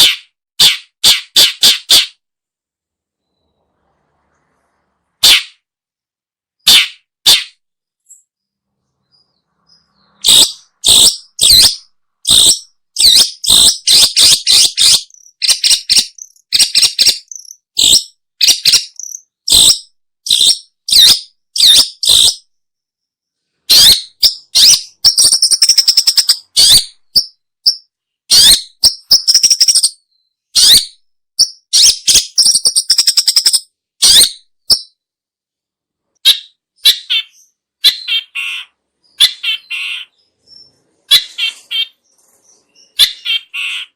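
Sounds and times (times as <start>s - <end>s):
bird harsh rattling calls: 0.0s - 2.2s, 5.2s - 5.6s, 6.6s - 7.6s, 9.1s - 22.5s, 23.7s - 30.0s, 30.6s - 34.9s, 36.2s - 43.9s.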